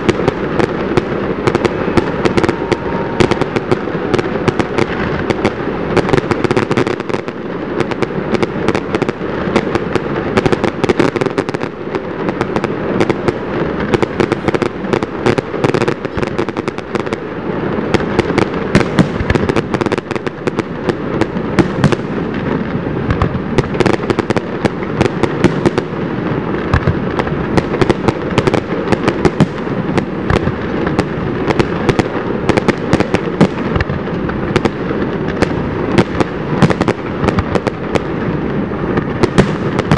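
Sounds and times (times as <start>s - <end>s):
fireworks crackling and popping: 0.0s - 39.9s
sharp fireworks reports: 0.0s - 39.9s.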